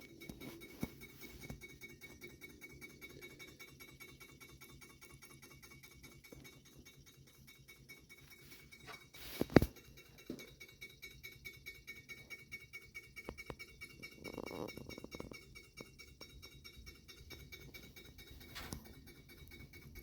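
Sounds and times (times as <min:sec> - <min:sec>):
engine mechanism ticking: 0:00.0 - 0:20.0.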